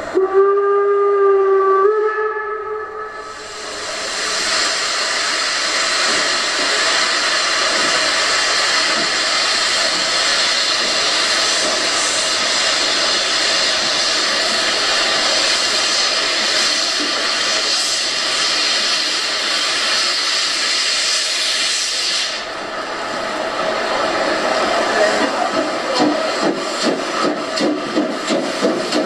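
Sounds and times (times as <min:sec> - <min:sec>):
model steam locomotive hiss: 0:03.2 - 0:22.6, 0:24.6 - 0:29.0.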